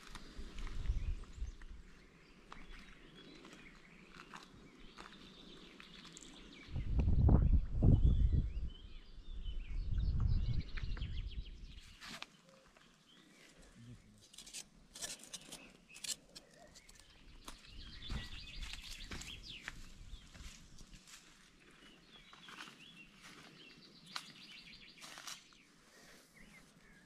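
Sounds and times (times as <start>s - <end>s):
songbirds chirping and singing: 0.1s - 27.0s.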